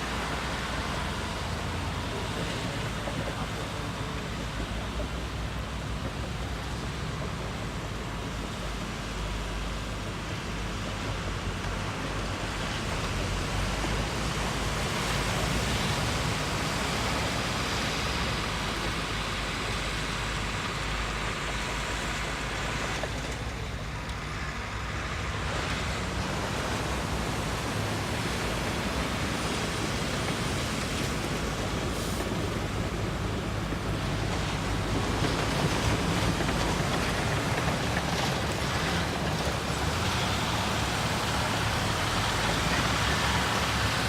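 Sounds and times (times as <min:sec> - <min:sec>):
broad rushing noise: 0:00.0 - 0:44.0
heavy machinery engine hum: 0:00.0 - 0:44.0.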